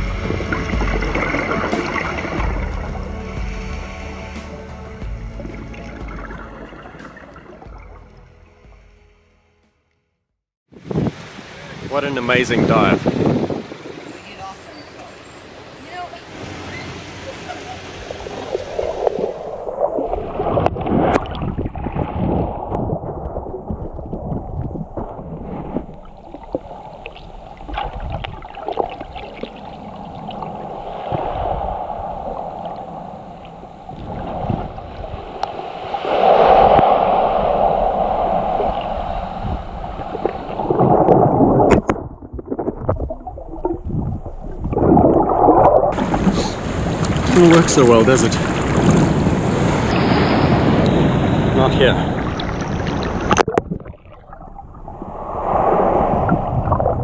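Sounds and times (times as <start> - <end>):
water sloshing underwater: 0.2 - 3.6, 5.4 - 8.1, 16.7 - 57.0.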